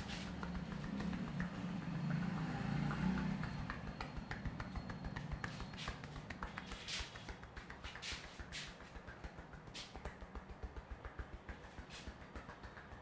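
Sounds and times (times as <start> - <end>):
hands rubbing hair: 0.0 - 1.8, 3.5 - 13.0
taps and pats on scalp: 0.0 - 13.0.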